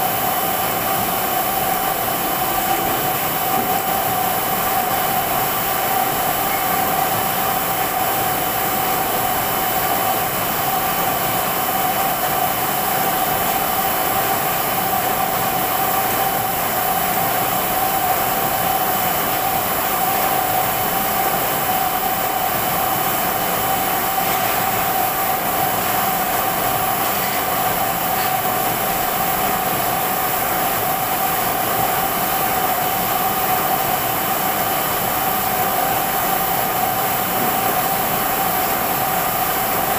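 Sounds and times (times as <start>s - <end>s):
printing press running: 0.0s - 39.9s
steady mechanical whine: 0.0s - 39.9s.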